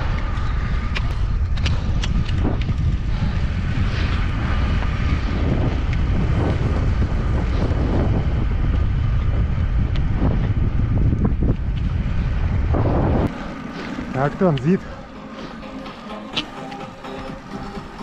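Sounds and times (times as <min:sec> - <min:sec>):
roller-ski wheels hissing on asphalt: 0:00.0 - 0:18.0
wind buffeting microphone: 0:00.0 - 0:18.0.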